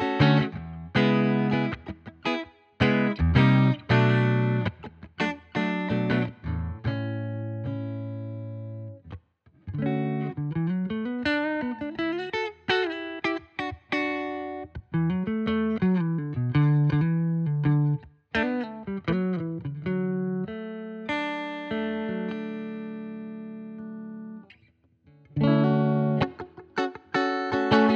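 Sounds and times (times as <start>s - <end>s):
clean electric guitar: 0.0s - 27.9s.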